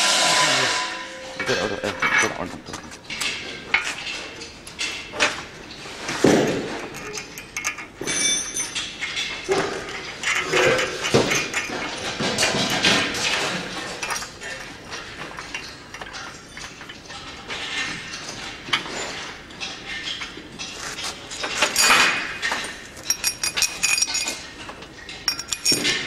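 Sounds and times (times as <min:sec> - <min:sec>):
metal parts clinking: 0:01.4 - 0:05.3, 0:06.9 - 0:18.0, 0:18.7 - 0:26.0.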